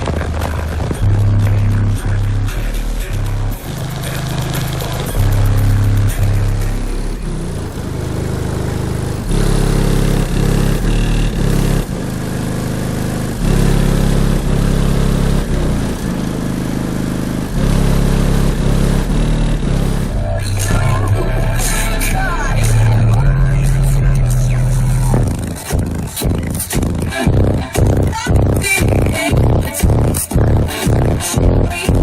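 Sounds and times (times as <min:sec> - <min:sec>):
bass-heavy music from car speakers: 0:00.0 - 0:32.0.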